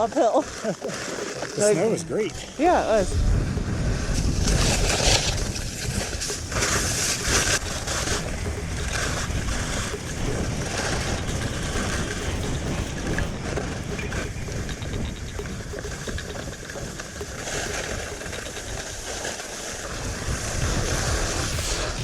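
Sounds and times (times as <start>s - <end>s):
wind buffeting microphone: 1.6s - 22.0s.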